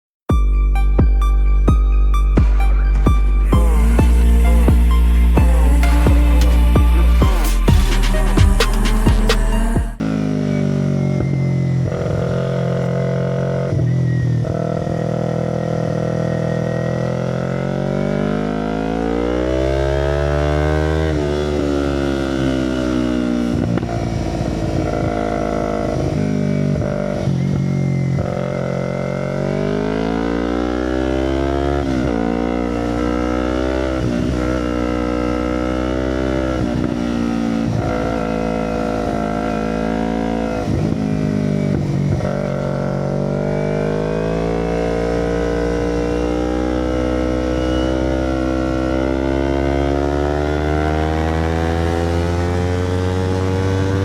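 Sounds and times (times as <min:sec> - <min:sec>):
motorcycle engine revving: 0:01.0 - 0:54.0.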